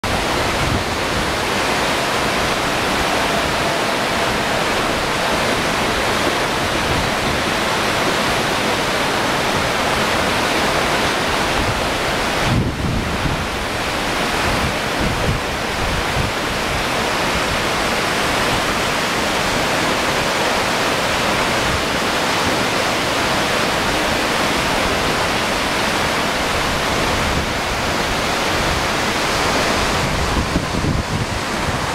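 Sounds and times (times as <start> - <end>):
river water roaring: 0.0 - 31.9.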